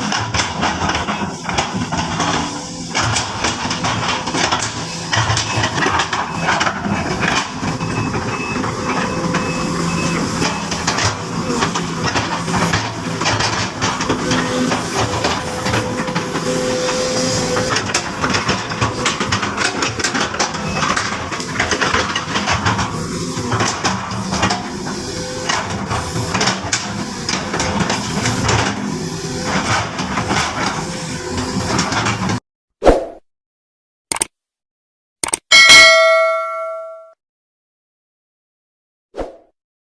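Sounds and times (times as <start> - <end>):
excavator diesel engine running: 0.0 - 32.3.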